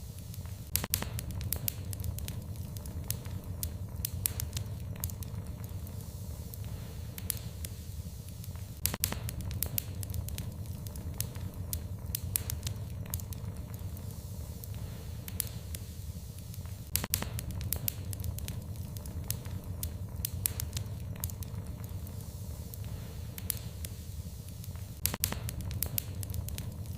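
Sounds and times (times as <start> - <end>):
wood fire crackling: 0.0 - 26.9.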